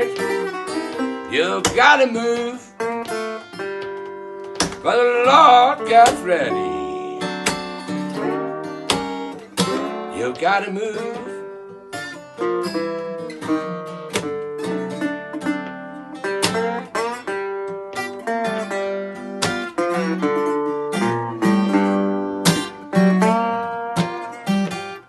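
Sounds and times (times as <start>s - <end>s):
acoustic guitar playing blues: 0.0s - 25.0s.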